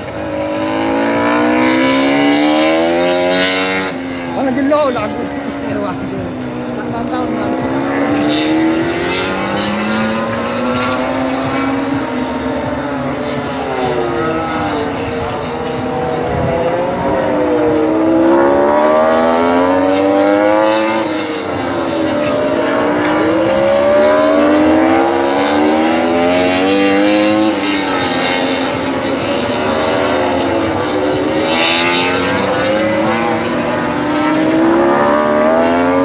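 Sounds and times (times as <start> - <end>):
race motorcycles accelerating: 0.0 - 36.0.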